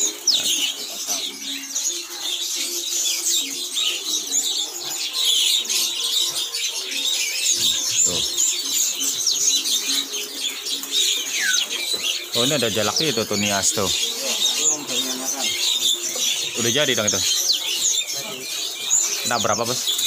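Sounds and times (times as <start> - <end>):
songbirds chirping and whistling: 0.0 - 20.0.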